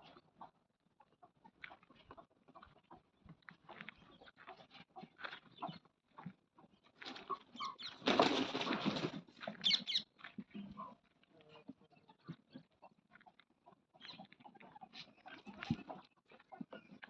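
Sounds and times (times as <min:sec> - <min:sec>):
farm animal calls: 0:00.0 - 0:17.0
animals scuffing: 0:01.2 - 0:17.0.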